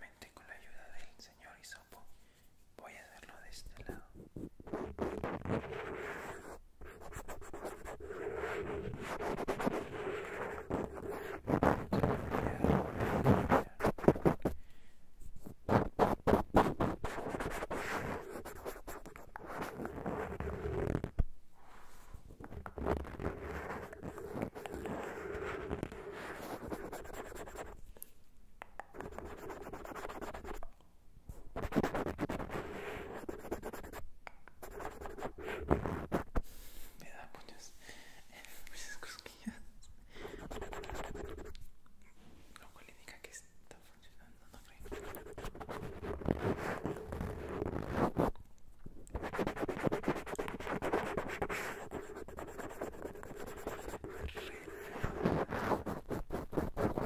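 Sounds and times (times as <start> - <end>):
cotton swab scratching microphone: 3.2 - 14.6, 15.2 - 27.9, 28.7 - 30.7, 31.3 - 37.6, 38.3 - 41.6, 42.2 - 48.4, 49.0 - 57.0.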